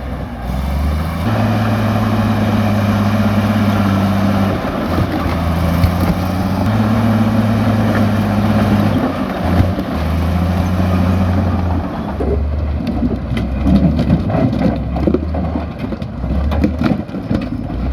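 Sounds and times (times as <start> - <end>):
bulldozer diesel engine under load: 0.0 - 17.9.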